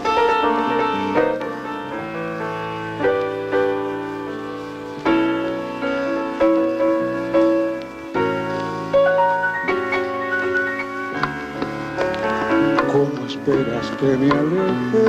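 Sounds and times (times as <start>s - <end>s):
piano playing chords and melody: 0.0s - 15.0s.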